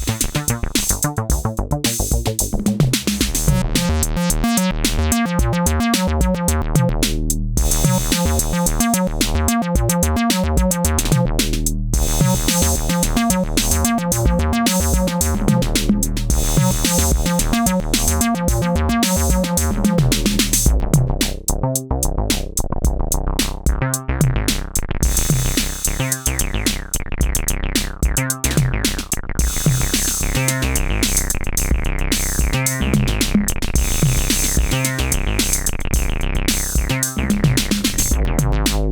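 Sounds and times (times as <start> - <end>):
drum machine beat: 0.0 - 38.9
synthesizer bass line: 0.0 - 38.9.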